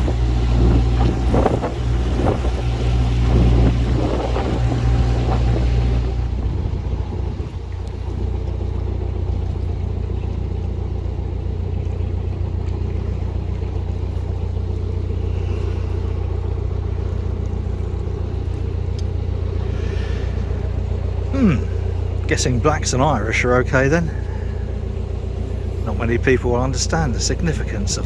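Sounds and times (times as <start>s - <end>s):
boat diesel engine droning: 0.0s - 28.0s.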